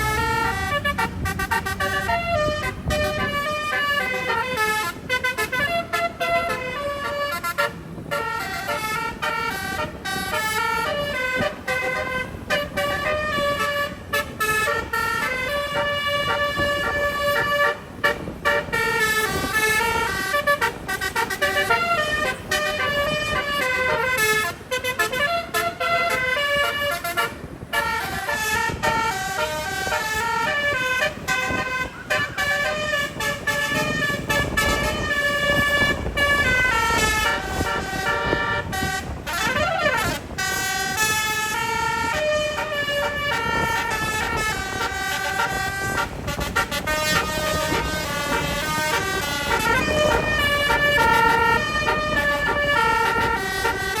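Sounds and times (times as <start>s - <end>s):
bus horn playing melody: 0.0s - 54.0s
road and engine rumble: 0.0s - 54.0s.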